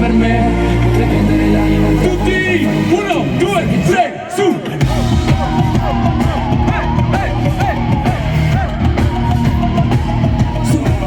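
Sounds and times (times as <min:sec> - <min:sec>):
bass guitar: 0:00.0 - 0:03.9, 0:04.8 - 0:11.0
heavy drums: 0:01.7 - 0:11.0.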